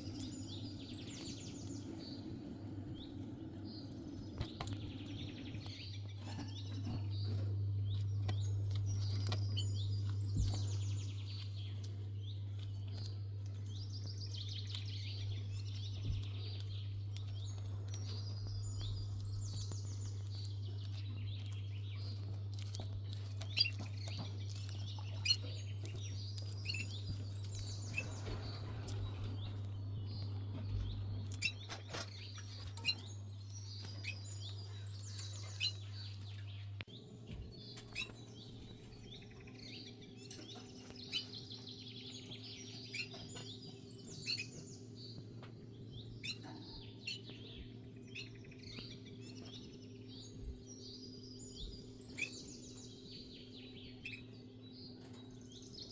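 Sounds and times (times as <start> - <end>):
small birds chirping: 0.0 - 55.9
steady low hum: 0.0 - 55.9.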